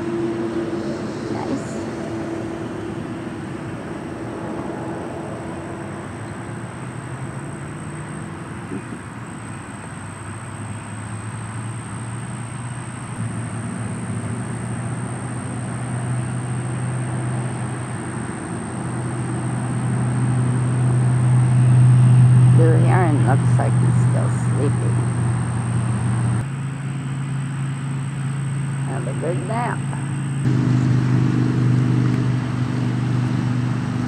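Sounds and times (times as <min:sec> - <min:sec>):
vehicle engine hum: 0:00.0 - 0:34.0.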